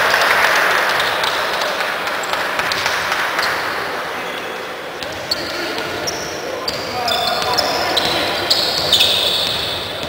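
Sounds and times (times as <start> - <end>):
crowd noise from spectators: 0.0 - 10.0.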